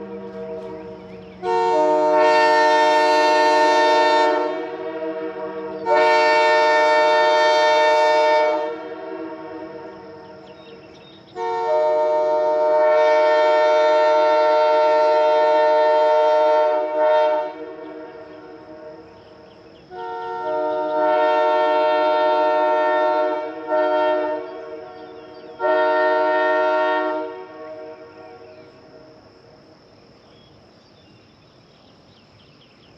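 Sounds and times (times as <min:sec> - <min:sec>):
three-chime train horn blasts: 0:00.0 - 0:29.3.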